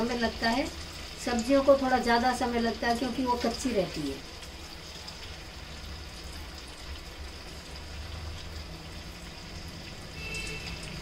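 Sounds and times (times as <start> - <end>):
deep-frying sizzle: 0.0 - 11.0.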